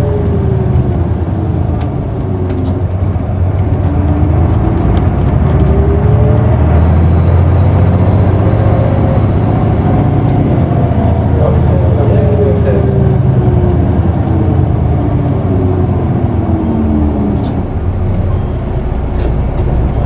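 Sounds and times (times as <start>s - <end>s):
bus engine accelerating: 0.0s - 20.0s.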